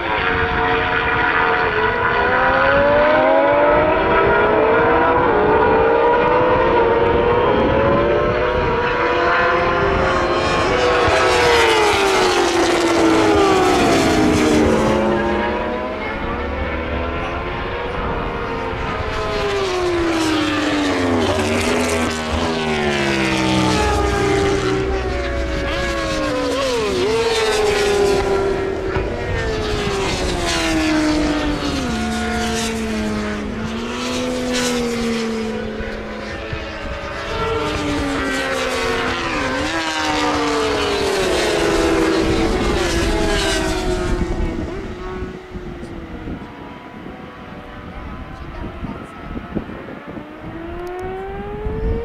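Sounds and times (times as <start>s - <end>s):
racing motorcycles passing: 0.0s - 52.0s.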